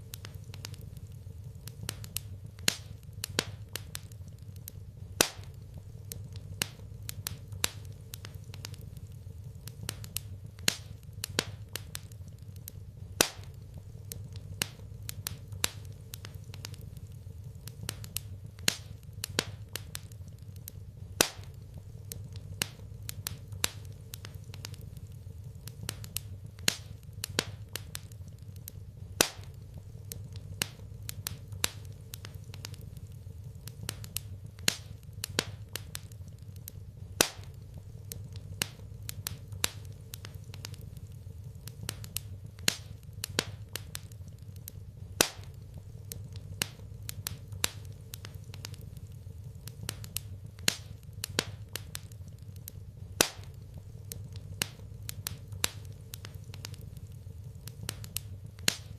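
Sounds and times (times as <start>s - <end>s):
sharp pops of fire: 0.0s - 58.9s
wood fire crackling: 0.0s - 58.9s.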